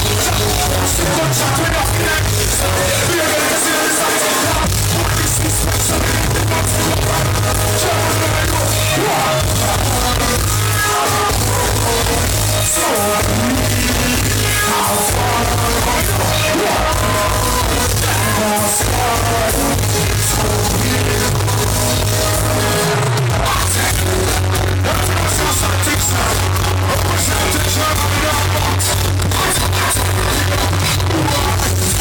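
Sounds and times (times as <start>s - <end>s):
heavy bass line: 0.0s - 32.0s
live reggae music: 0.0s - 32.0s
person singing and chanting: 0.0s - 32.0s.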